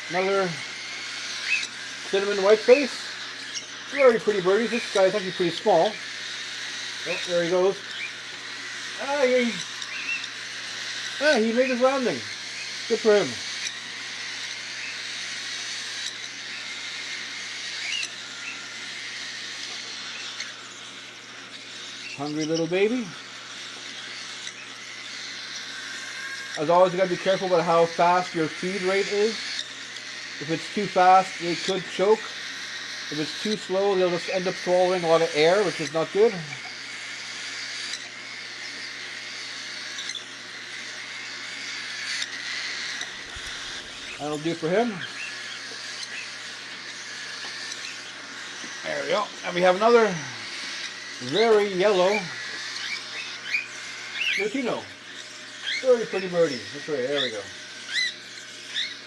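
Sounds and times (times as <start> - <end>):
chick raspy hissing feeding noise: 0.0 - 58.2
baby birds begging chatter: 0.0 - 59.0.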